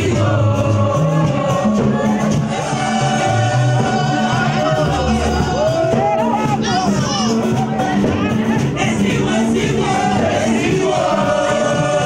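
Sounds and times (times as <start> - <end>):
music with repeating bass line: 0.0 - 12.0
person singing: 0.0 - 12.0.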